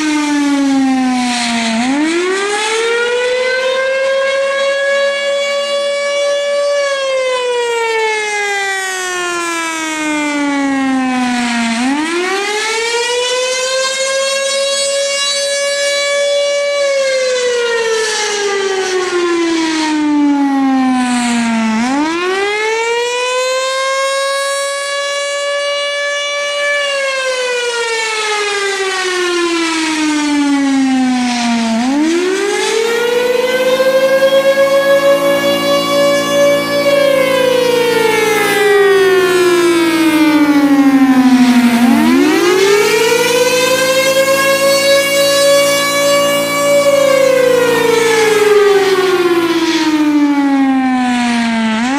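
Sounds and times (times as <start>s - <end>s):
warning siren wailing: 0.0s - 51.9s.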